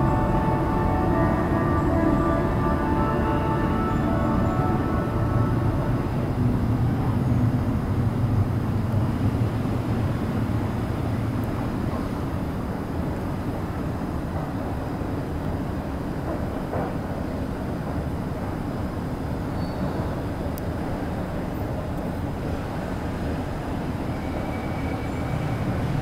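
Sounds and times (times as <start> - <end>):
low rumble of metro platform: 0.0 - 26.0.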